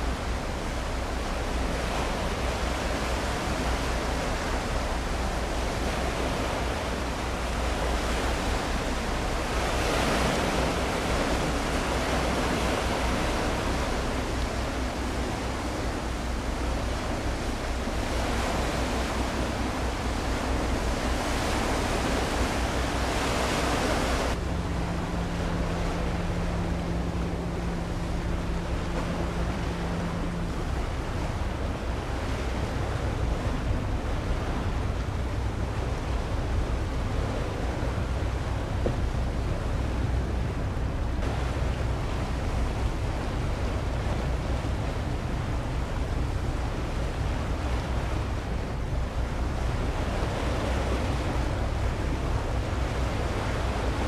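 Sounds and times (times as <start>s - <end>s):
waves: 0.0s - 54.0s
wind on microphone: 0.0s - 54.0s.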